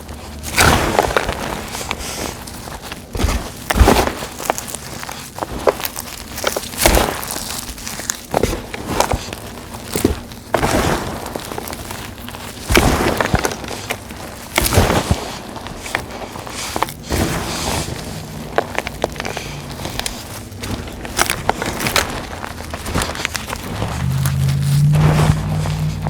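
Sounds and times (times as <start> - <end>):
chalk crunching by hand: 0.0 - 26.0.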